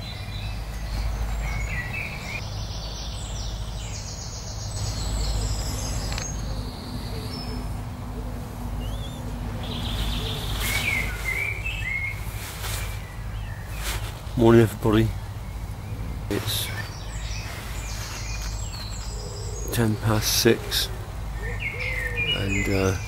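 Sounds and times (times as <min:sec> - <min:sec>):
birds chirping and trilling: 0:00.0 - 0:23.0
steady low rumble: 0:00.0 - 0:23.0.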